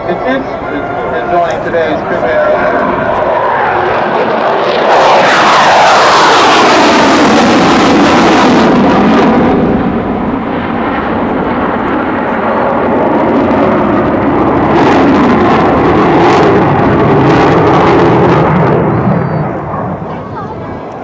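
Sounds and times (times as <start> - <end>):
jet fighter flying past: 0.0 - 21.0.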